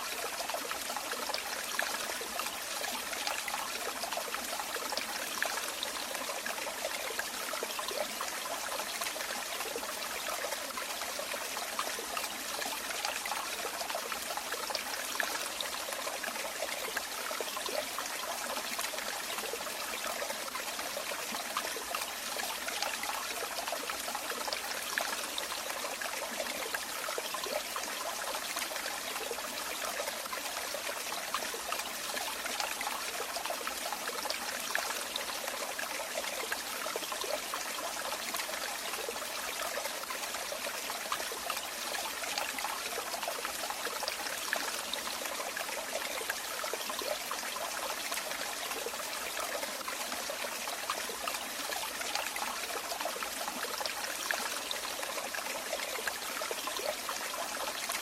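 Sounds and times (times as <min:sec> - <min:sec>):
water trickling and bubbling: 0:00.0 - 0:58.0.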